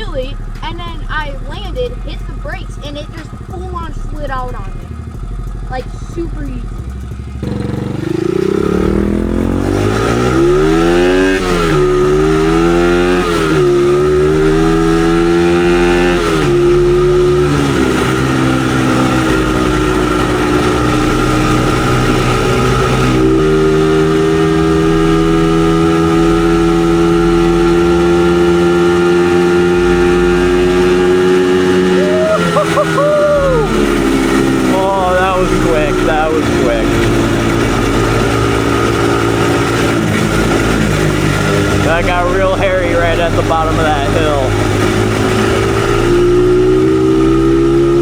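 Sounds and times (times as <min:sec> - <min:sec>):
dirt bike engine accelerating: 0:00.0 - 0:48.0.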